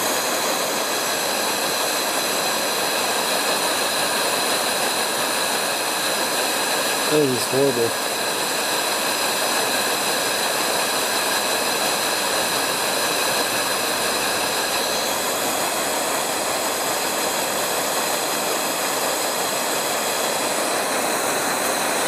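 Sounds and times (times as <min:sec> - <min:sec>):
pressure lanterns hissing: 0:00.0 - 0:22.0.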